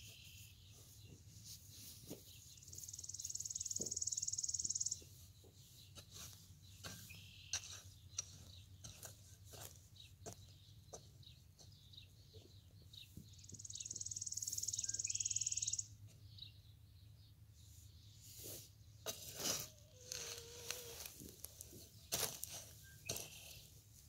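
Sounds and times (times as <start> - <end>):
light clicks and scrapes from soil: 0.0 - 15.3, 17.6 - 24.0.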